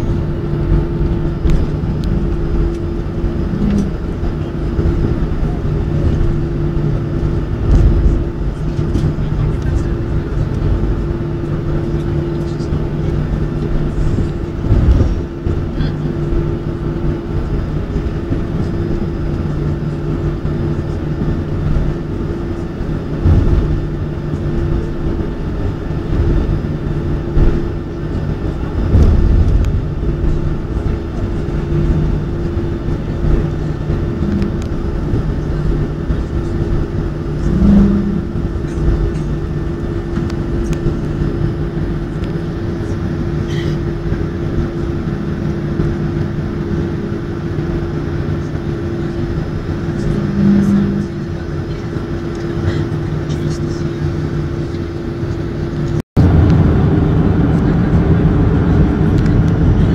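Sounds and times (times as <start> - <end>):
jet engines heard inside cabin: 0.0 - 59.9.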